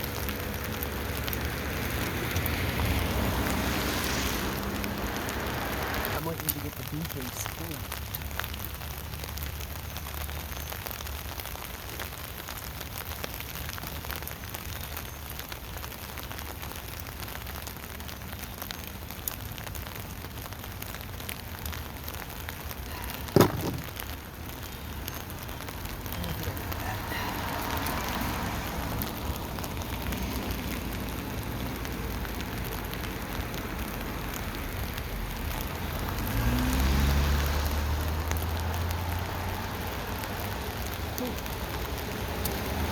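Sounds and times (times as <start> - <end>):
rain on a tent canopy: 0.0 - 42.9.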